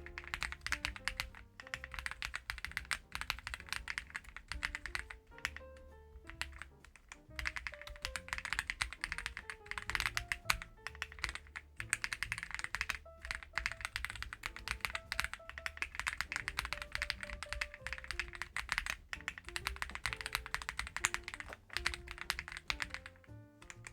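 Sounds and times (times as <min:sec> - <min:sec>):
fast typing on mechanical keyboard: 0:00.0 - 0:23.9.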